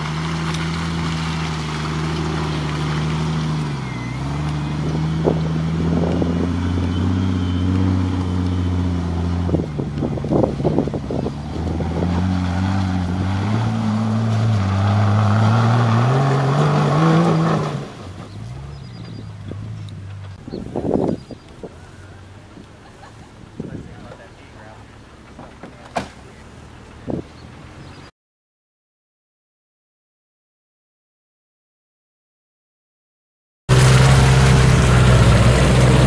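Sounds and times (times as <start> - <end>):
engine running under load: 0.0 - 28.1, 33.7 - 36.0.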